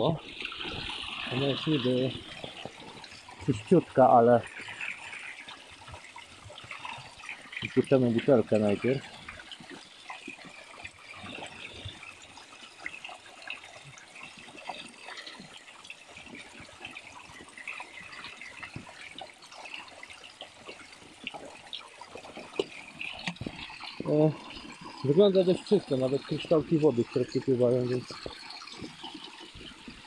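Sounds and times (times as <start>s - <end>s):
stream trickling over stones: 0.0s - 30.0s.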